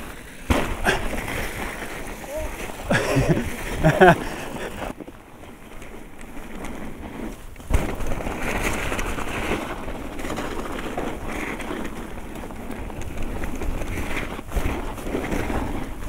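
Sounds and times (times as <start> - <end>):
bike rattling over bumps: 0.0 - 16.0
tyres crunching through snow: 0.0 - 16.0.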